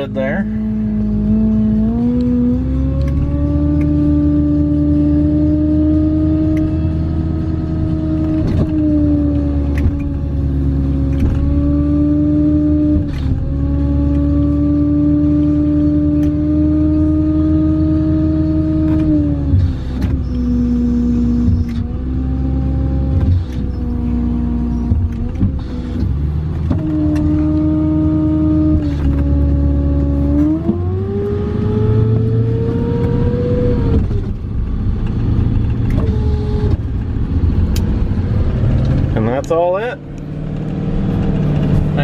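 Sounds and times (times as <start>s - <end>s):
truck engine whine from cab: 0.0s - 42.0s.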